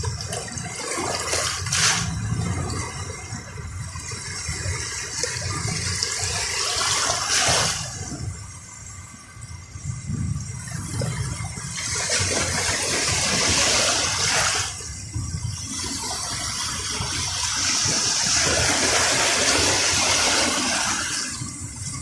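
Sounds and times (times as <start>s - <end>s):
waves washing onto beach: 0.0s - 22.0s.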